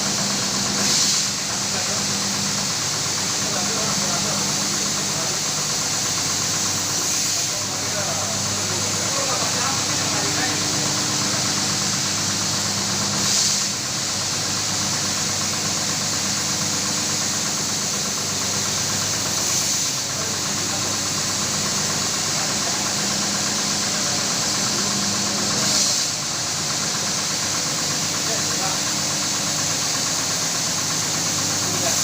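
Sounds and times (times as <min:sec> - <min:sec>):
carpet washing machine running: 0:00.0 - 0:32.0.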